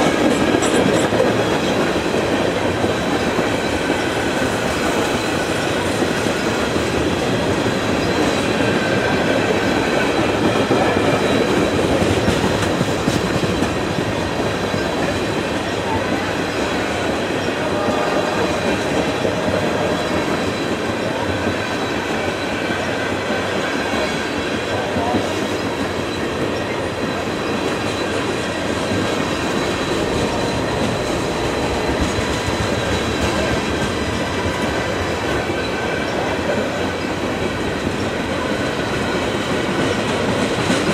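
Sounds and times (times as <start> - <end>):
railroad cars rolling past: 0.0 - 40.9.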